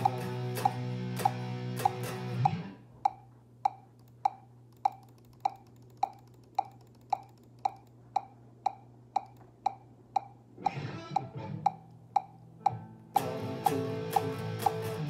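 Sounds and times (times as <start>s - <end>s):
low hum from guitar rig: 0.0s - 15.0s
metronome clicking: 0.0s - 15.0s.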